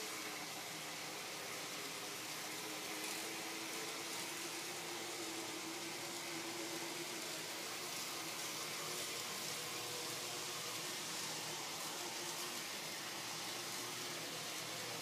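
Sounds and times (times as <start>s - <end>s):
model train motor humming: 0.0s - 15.0s
steady hiss: 0.0s - 15.0s.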